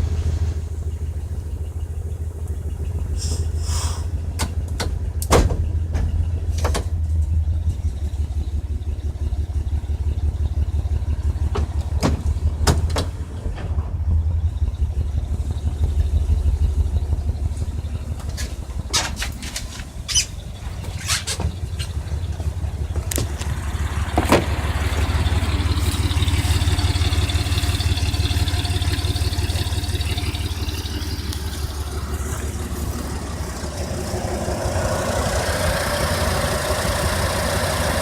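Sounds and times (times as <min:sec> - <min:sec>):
engine idling rough: 0:00.0 - 0:38.0.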